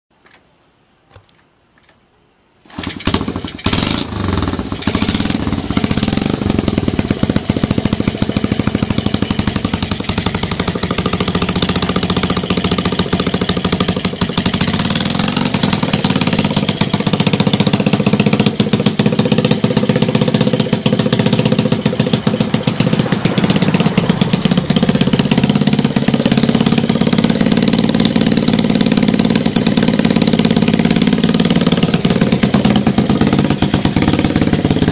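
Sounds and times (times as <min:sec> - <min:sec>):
motorcycle engine revving: 0:02.7 - 0:34.9
motorcycle kick-start: 0:02.7 - 0:34.9
motorcycle engine idling: 0:03.1 - 0:34.9.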